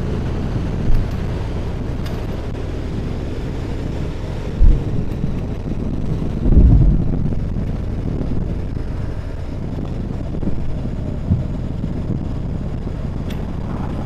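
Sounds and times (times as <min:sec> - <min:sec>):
motorcycle engine running: 0:00.0 - 0:14.0
wind over microphone: 0:00.0 - 0:14.0.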